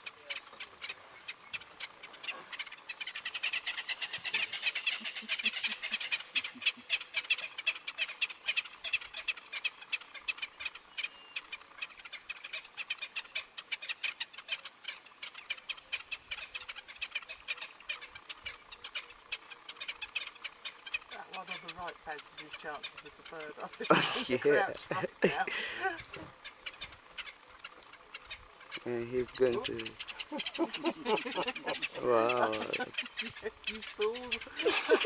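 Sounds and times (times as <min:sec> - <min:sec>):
birds giving sharp alarm calls: 0:00.0 - 0:35.0.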